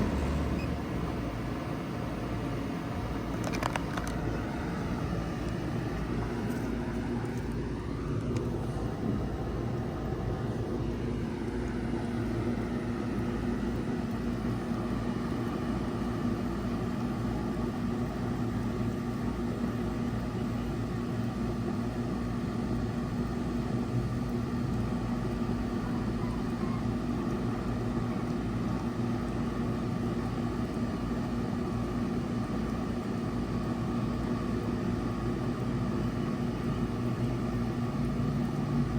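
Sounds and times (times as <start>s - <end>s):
heat pump running: 0.0s - 38.9s.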